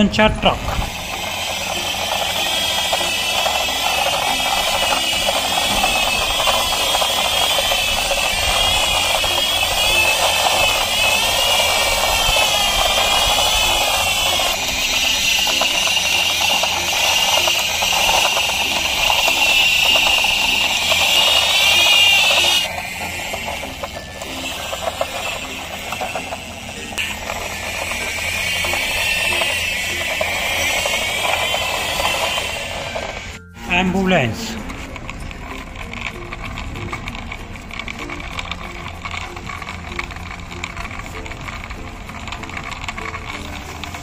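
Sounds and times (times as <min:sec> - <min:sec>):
high warbling tone: 0:00.0 - 0:43.8
toy gears rattling: 0:00.0 - 0:44.0.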